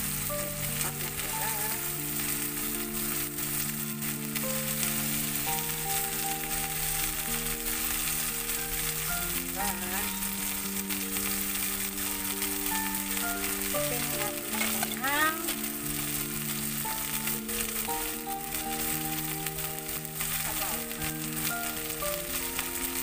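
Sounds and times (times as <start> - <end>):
soft background music: 0.0 - 23.0
vegetables sizzling in a wok: 0.0 - 23.0.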